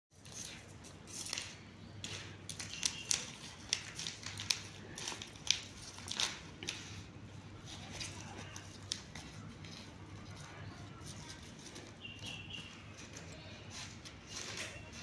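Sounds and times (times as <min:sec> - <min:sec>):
kitten scratching and rustling cloth: 0:00.1 - 0:15.0.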